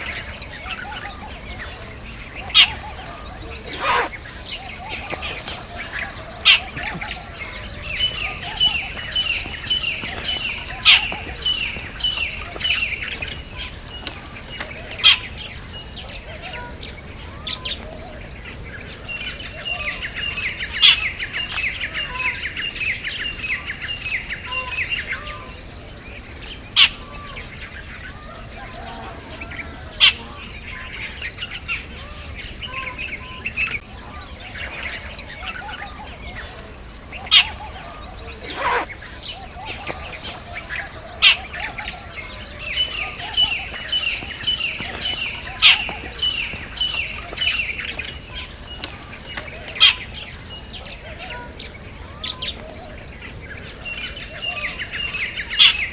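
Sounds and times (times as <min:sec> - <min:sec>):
birds chattering calls: 0:00.0 - 0:55.9.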